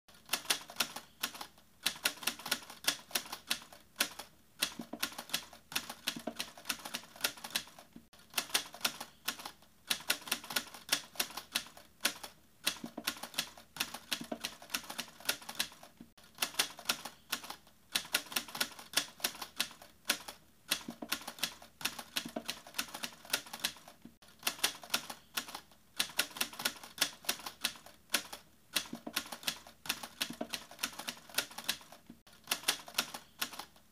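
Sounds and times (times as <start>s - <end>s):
rapid key clicking: 0.3s - 33.8s.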